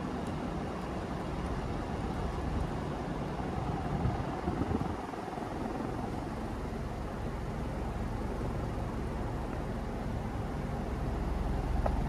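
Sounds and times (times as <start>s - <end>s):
ceiling fan air rushing: 0.0s - 12.0s.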